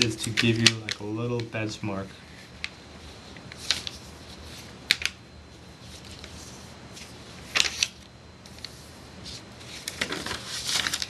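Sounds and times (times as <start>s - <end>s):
paper folding crackles: 0.0s - 1.7s, 2.3s - 5.2s, 5.8s - 11.0s
faint steady hum: 0.0s - 11.0s.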